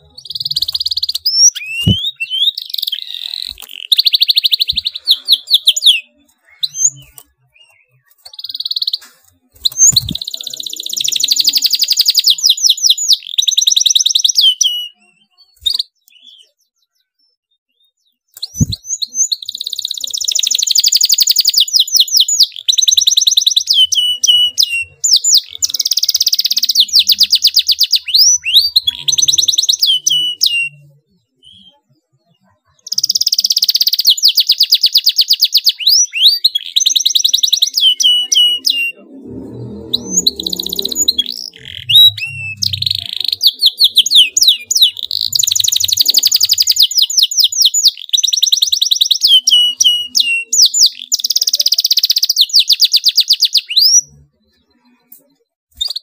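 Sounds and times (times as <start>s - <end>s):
canary singing fast trills: 0.0s - 56.0s.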